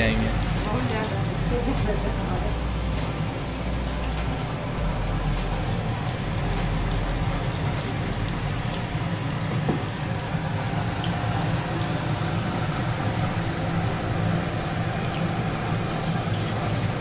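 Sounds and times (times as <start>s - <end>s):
food deep-frying in oil: 0.0s - 17.0s
steady low hum: 0.0s - 17.0s.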